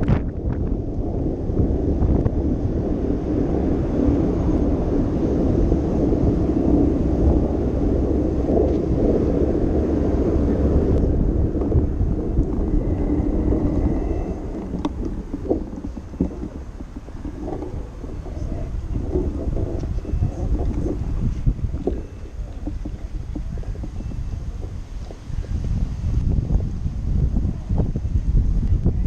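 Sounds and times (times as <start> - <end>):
rolling road noise: 0.0 - 29.0
wind rumbling on microphone: 0.0 - 29.0.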